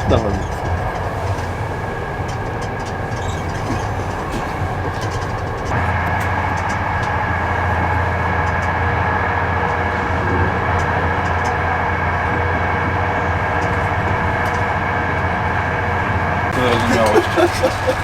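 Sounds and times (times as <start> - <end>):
train carriage rumble: 0.0 - 18.0.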